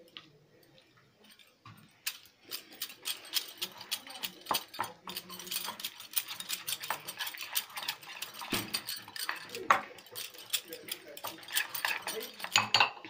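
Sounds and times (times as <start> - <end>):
spoon scraping ceramic bowl: 2.1 - 13.0.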